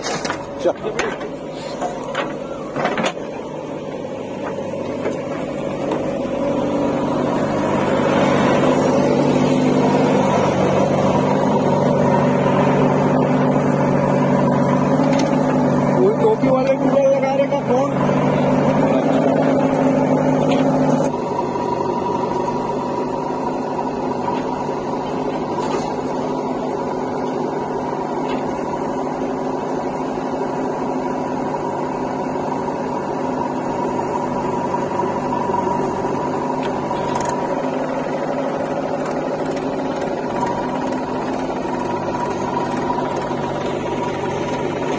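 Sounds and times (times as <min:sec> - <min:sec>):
diesel engine humming: 0:00.0 - 0:44.9.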